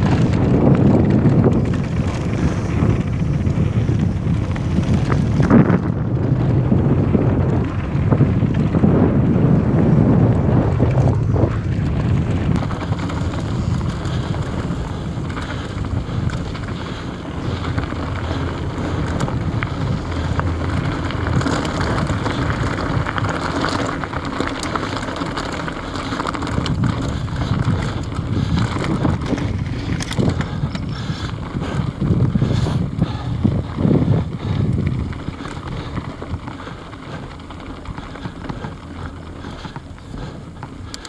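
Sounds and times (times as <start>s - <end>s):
bike tyres rolling on gravel: 0.0s - 41.0s
wind on microphone: 0.0s - 41.0s.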